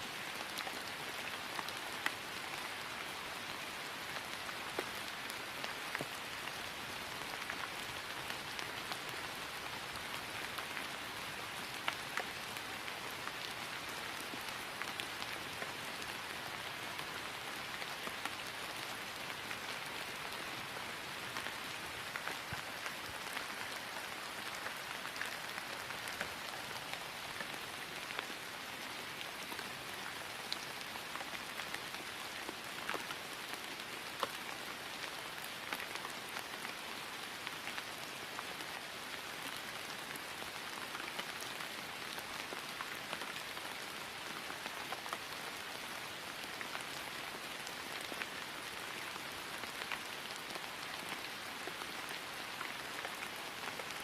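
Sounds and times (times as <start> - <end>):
rain falling on grass: 0.0 - 54.0.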